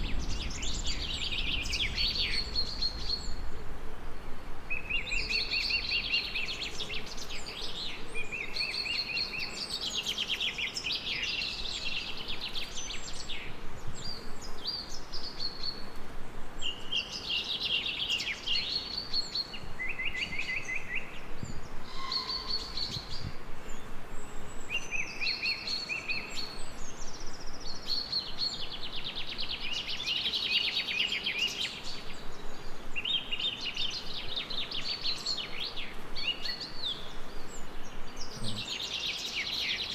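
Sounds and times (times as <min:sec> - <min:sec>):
songbirds trilling: 0:00.0 - 0:39.9
steady background hiss: 0:00.0 - 0:39.9.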